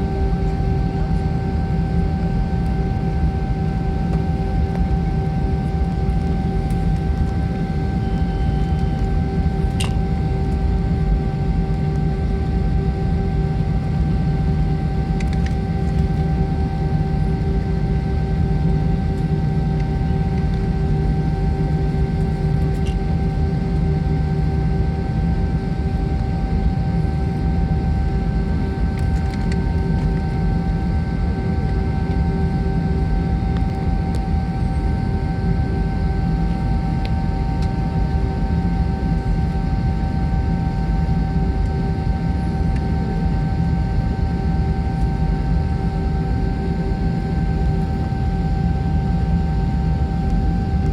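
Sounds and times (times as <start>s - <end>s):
airliner cabin rumble: 0.0s - 41.2s.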